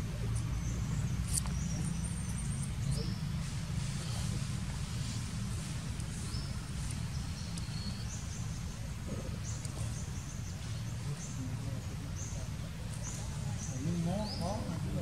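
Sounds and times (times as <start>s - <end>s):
steady low rumble: 0.0s - 13.8s.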